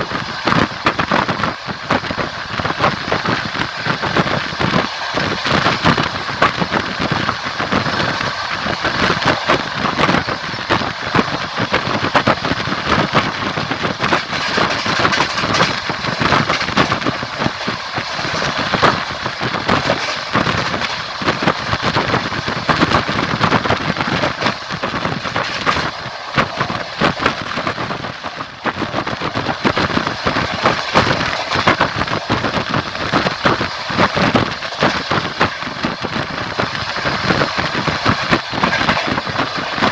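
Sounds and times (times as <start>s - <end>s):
train rumbling: 0.0s - 39.9s
wheels clacking over rails: 0.0s - 39.9s.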